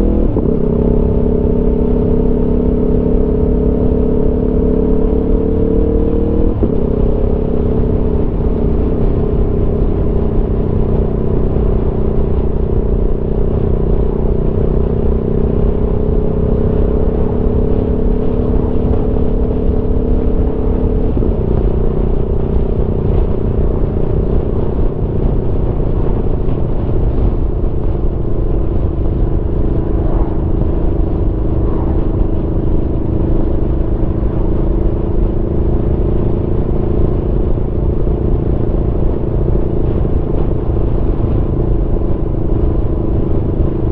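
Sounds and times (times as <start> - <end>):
low wind rumble: 0.0 - 43.9
motorcycle engine running: 0.0 - 43.9.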